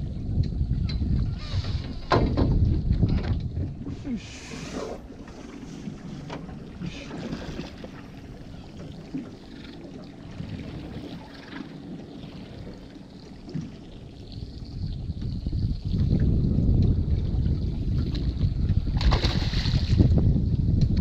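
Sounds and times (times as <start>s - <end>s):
water noise around a boat: 0.0s - 21.0s
wind: 0.0s - 21.0s.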